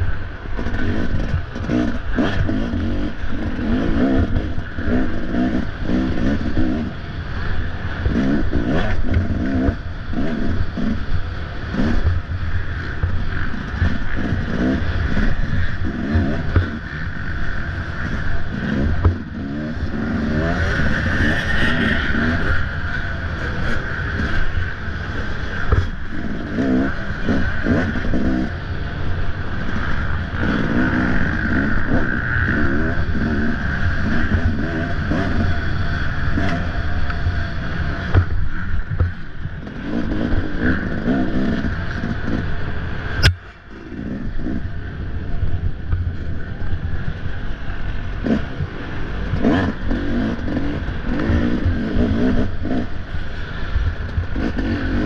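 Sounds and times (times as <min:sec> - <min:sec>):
knocks and rattles from bike: 0:00.0 - 0:44.7, 0:45.5 - 0:55.0
dirt bike engine revving: 0:00.0 - 0:55.0.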